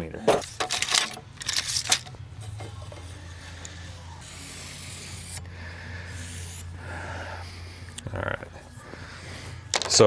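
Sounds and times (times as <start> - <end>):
steady low hum: 0.2 - 9.8.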